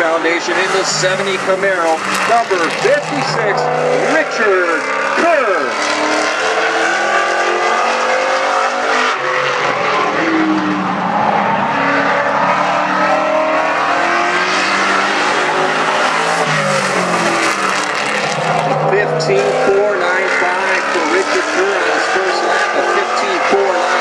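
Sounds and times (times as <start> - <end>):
race car engine: 0.0 - 24.0.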